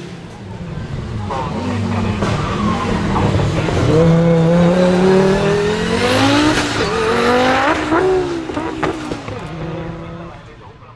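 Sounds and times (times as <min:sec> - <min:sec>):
race car engine accelerating: 0:00.0 - 0:10.8.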